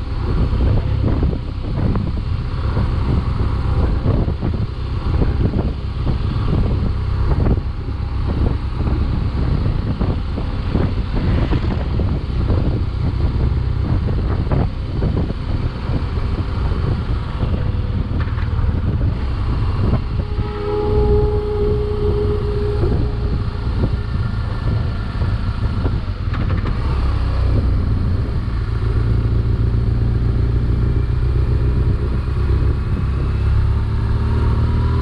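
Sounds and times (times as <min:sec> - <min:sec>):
motorcycle engine at road speed: 0:00.0 - 0:35.0
wind buffeting microphone: 0:00.0 - 0:35.0.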